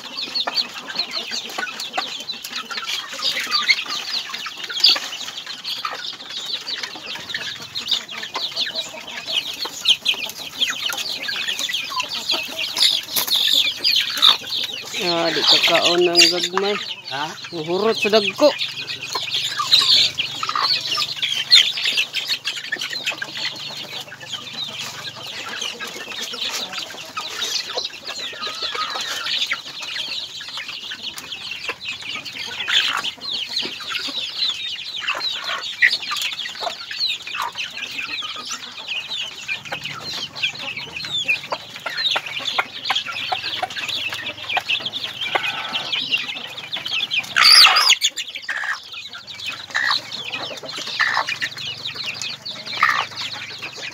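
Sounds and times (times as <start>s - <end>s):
chicks peeping: 0.0s - 53.9s
hens clucking: 0.0s - 53.9s.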